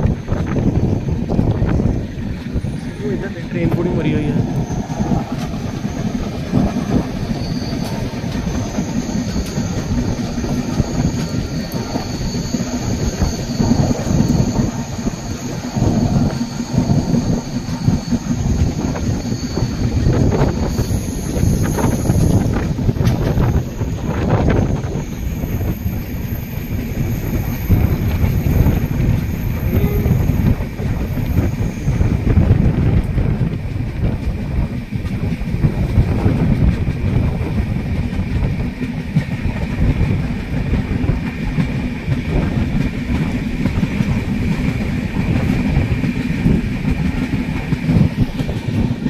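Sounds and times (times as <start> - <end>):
train wheels clattering on rails: 0.0 - 49.0.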